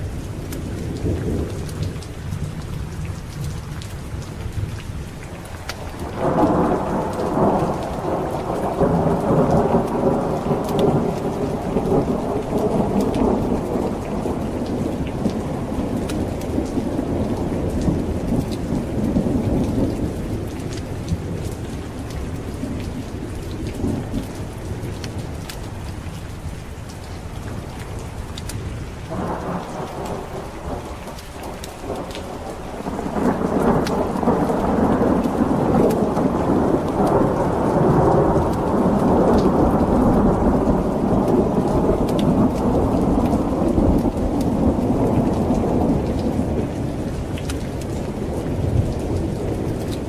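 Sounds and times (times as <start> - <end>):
heavy rain: 0.0 - 50.0
rolling thunder: 5.8 - 25.8, 27.5 - 50.0.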